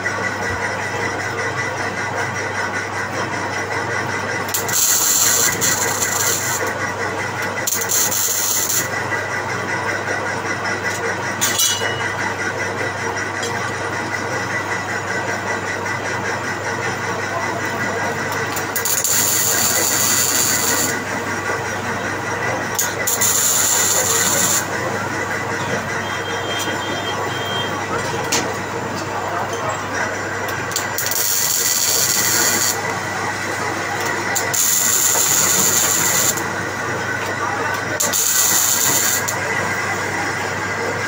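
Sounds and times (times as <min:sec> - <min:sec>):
lathe motor and gearbox hum: 0:00.0 - 0:41.0.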